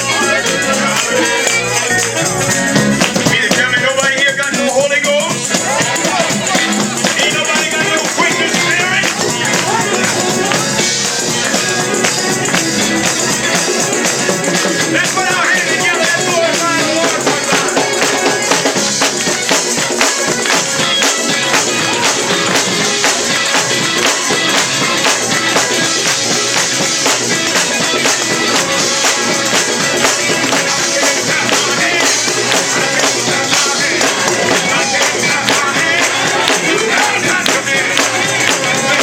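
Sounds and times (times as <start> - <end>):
people singing along: 0.0 - 4.7, 5.3 - 39.0
fast percussive beat: 0.0 - 39.0
gospel band music: 0.0 - 39.0.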